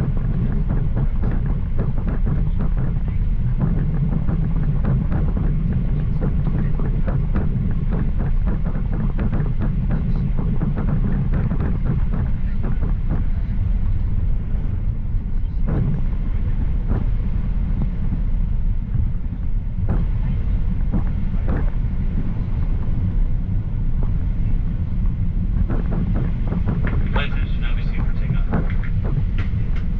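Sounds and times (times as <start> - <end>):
airplane engines rumbling in cabin: 0.0 - 29.9.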